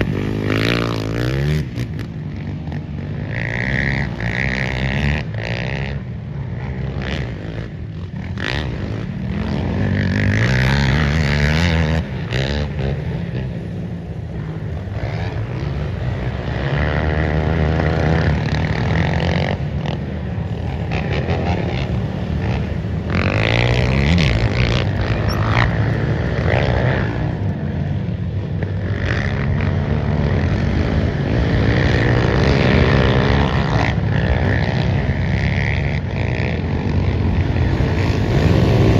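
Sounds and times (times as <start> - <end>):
race engines revving: 0.0 - 38.9.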